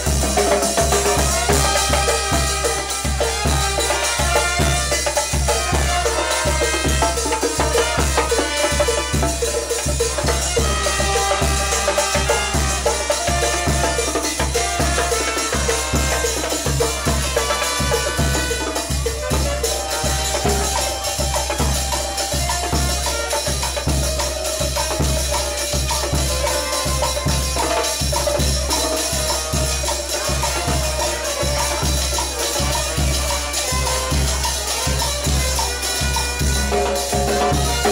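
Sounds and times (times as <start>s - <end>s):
bass drum and cymbals: 0.0s - 37.9s
saxophone: 0.0s - 37.9s
small percussion shaking: 0.0s - 37.9s
trombone: 0.0s - 37.9s.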